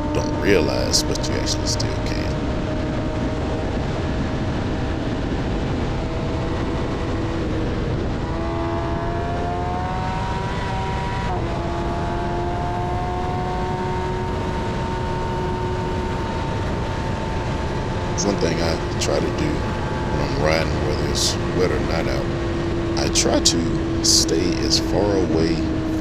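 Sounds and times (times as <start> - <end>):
motorcycle engine: 0.0 - 26.0
wind and road noise: 0.0 - 26.0.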